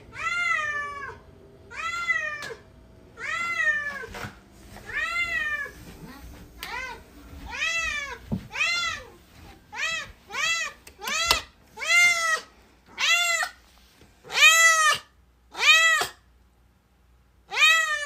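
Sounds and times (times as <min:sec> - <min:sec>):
cat meowing: 0:00.1 - 0:02.6, 0:03.2 - 0:04.1, 0:04.8 - 0:13.6, 0:14.3 - 0:16.2, 0:17.5 - 0:18.0.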